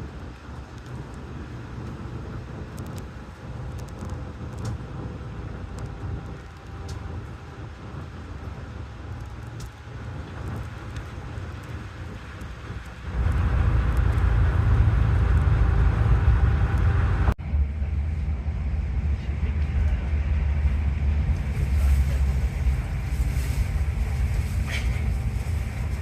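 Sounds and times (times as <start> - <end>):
vehicle rumbling: 0.0 - 26.0.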